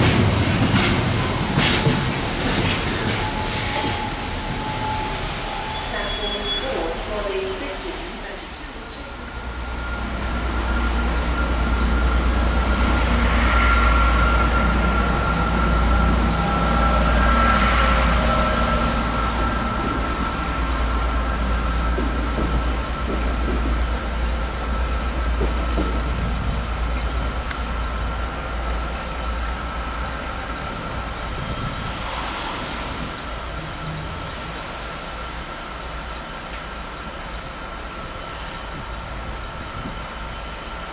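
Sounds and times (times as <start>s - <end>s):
diesel train engine rumble: 0.0s - 40.9s.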